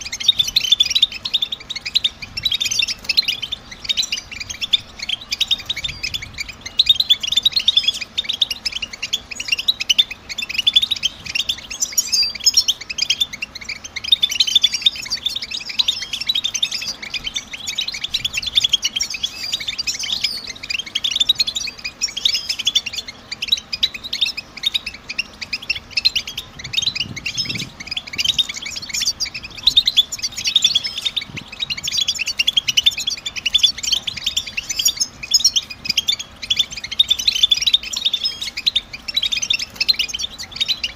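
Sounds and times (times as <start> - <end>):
bird twittering: 0.0 - 40.9.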